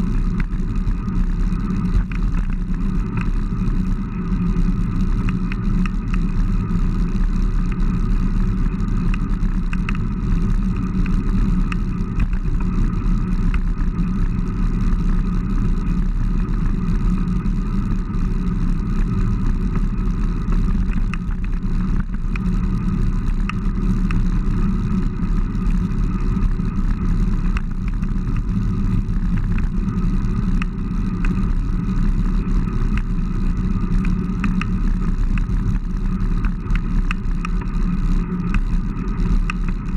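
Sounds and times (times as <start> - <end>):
bike tyres road rumble: 0.0 - 39.9.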